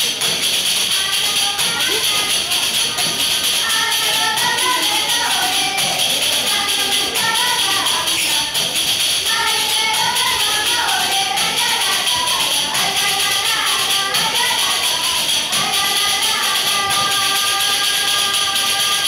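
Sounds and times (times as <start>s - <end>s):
jingled frame drums: 0.0s - 19.0s
women singing together: 0.0s - 19.0s.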